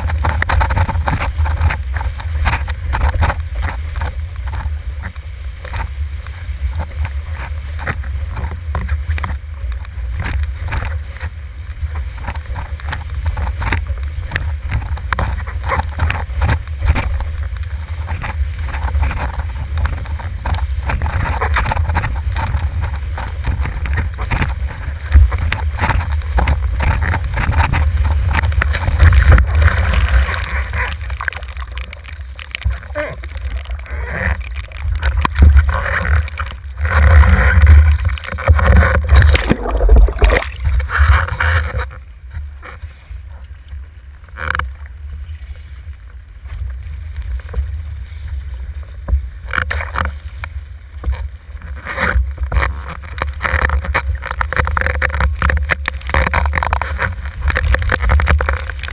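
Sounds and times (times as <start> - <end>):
board slapping choppy water: 0.0 - 58.9.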